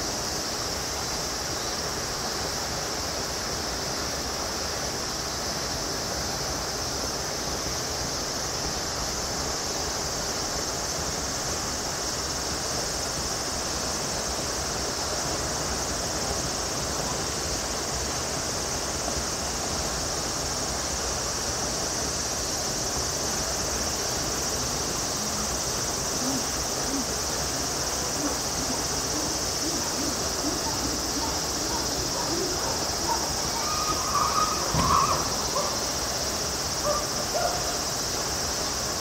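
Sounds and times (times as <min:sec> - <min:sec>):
background hiss: 0:00.0 - 0:39.0
insect chorus shrilling: 0:00.0 - 0:39.0.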